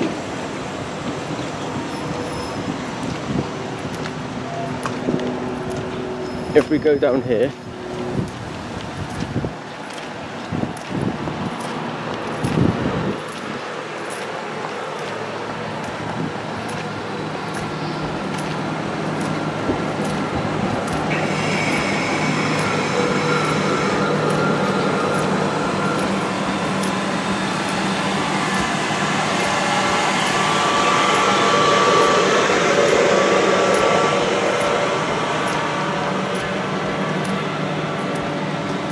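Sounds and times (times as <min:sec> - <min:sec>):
electric train rumbling: 0:00.0 - 0:38.9
train whine: 0:00.0 - 0:38.9.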